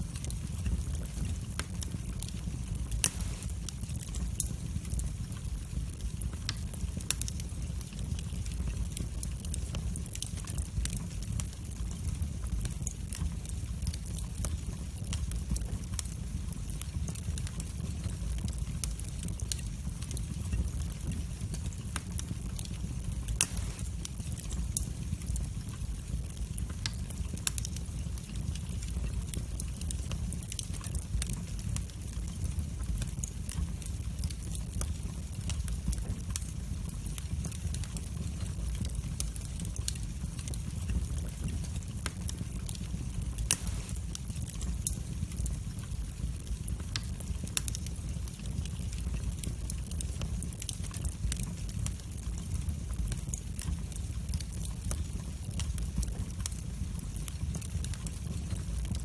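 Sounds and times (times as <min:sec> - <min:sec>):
fire rumbling: 0:00.0 - 0:59.0
wood fire crackling and popping: 0:00.0 - 0:59.0.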